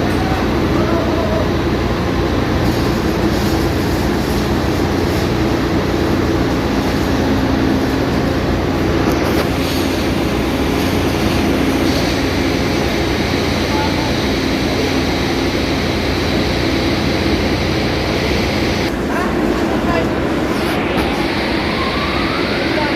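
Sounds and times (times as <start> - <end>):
engine room machinery drone: 0.0 - 22.9.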